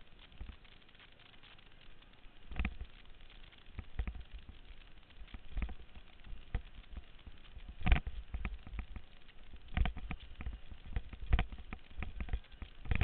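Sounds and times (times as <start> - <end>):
muffled whitewater: 0.0 - 13.0.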